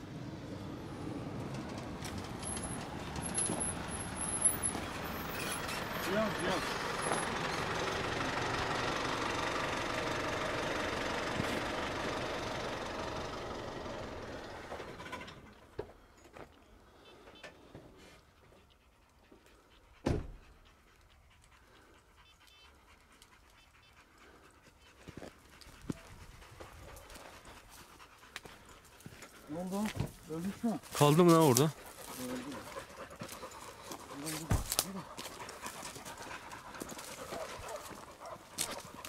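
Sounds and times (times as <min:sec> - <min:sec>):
dog panting: 0:03.0 - 0:13.4, 0:17.9 - 0:39.0.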